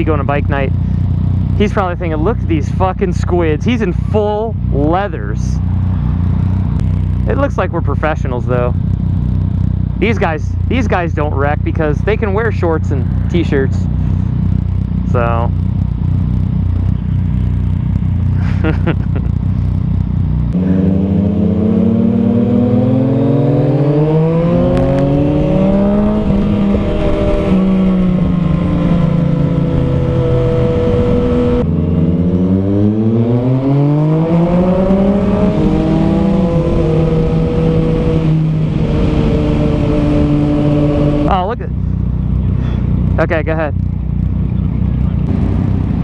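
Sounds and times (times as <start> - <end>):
motorcycle accelerating through gears: 0.0 - 46.0.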